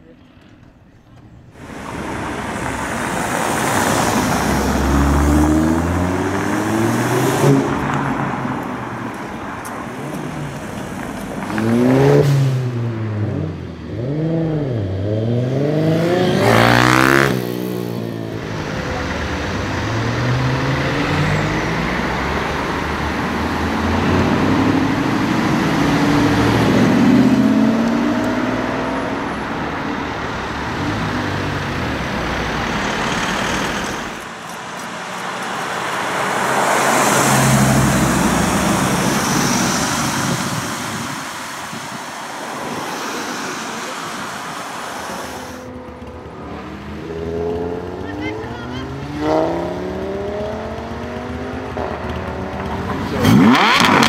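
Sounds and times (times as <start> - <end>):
car engine revving and accelerating: 1.6 - 54.0.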